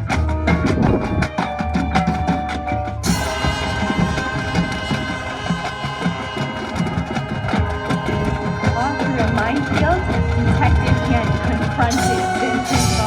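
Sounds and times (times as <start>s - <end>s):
marching band playing: 0.0s - 13.0s
steady drum beat: 0.0s - 13.0s
ticking percussion rhythm: 0.0s - 13.0s.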